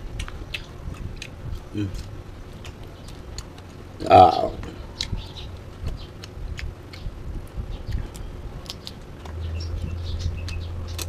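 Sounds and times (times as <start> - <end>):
low hum: 0.0 - 11.0
chewing: 0.1 - 3.8, 4.6 - 11.0.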